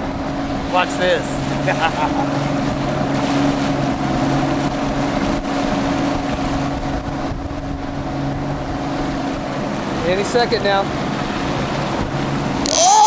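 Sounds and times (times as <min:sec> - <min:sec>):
boat motor humming: 0:00.0 - 0:13.0
water rushing: 0:00.0 - 0:13.0
wind on microphone: 0:00.0 - 0:13.0.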